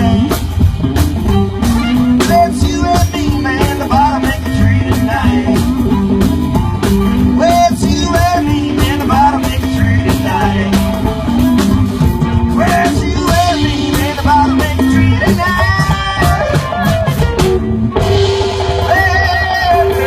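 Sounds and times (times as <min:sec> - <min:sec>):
bass line: 0:00.0 - 0:20.0
bending guitar-like lead notes: 0:00.0 - 0:20.0
drum beat: 0:00.0 - 0:20.0
rockabilly band playing live: 0:00.0 - 0:20.0.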